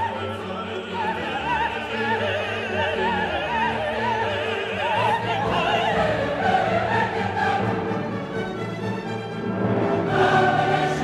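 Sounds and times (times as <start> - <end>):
classical singing with vibrato: 0.0 - 8.4, 9.9 - 11.0
orchestral accompaniment: 0.0 - 11.0.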